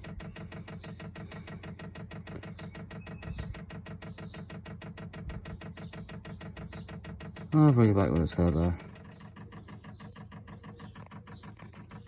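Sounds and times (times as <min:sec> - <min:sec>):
fuel pump ticking rapidly: 0:00.0 - 0:12.0.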